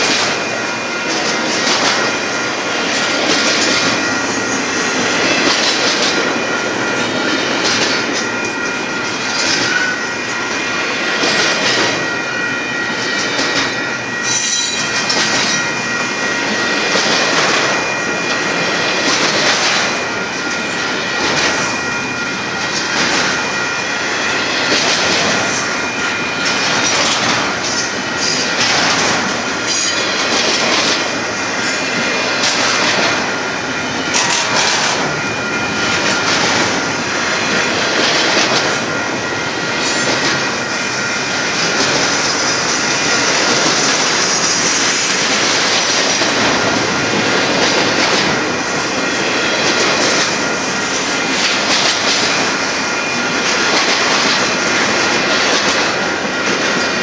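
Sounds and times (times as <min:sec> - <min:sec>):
clickety-clack from rail joints: 0:00.0 - 0:57.0
steel wheels rumbling on rail: 0:00.0 - 0:57.0.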